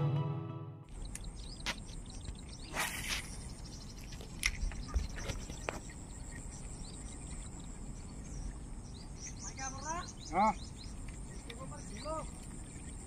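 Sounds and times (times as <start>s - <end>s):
bird chirps: 0.9s - 13.0s
insect drone: 0.9s - 13.0s.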